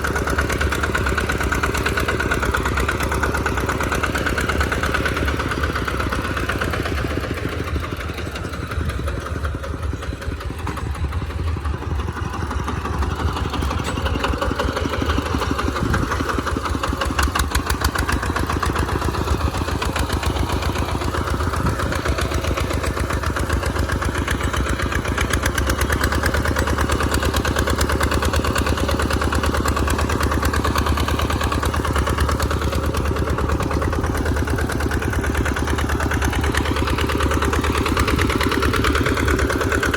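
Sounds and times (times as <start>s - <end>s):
tractor engine under load: 0.0s - 39.9s.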